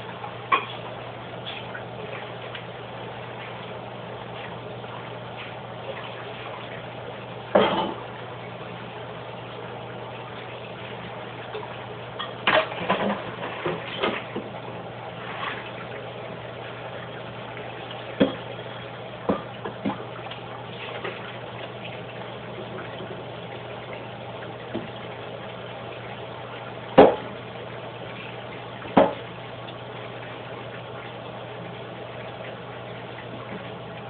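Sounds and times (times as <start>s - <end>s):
liquid sounds: 0.0s - 34.0s.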